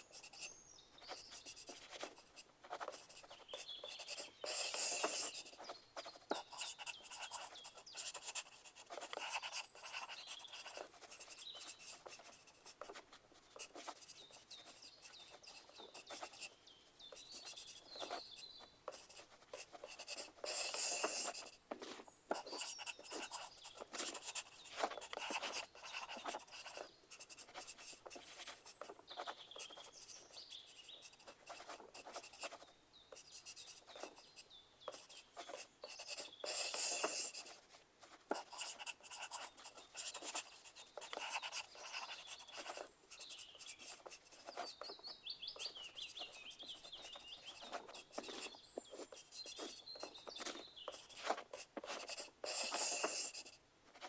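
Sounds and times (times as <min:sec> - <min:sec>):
pencil writing on paper: 0:00.0 - 0:54.0.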